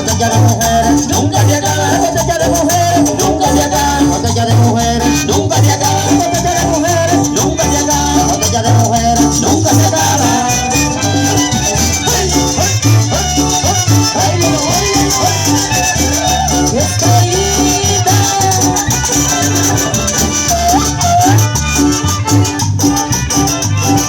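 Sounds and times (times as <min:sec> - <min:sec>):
band playing instrumental music: 0:00.0 - 0:24.0.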